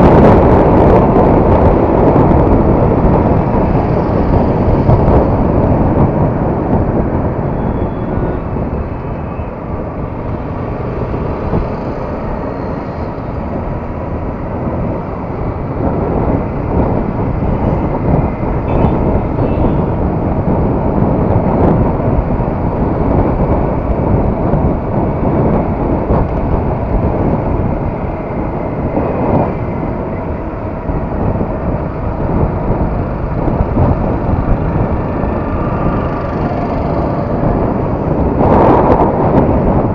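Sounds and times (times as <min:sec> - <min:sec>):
road noise: 0:00.0 - 0:39.9
wind rush: 0:00.0 - 0:39.9.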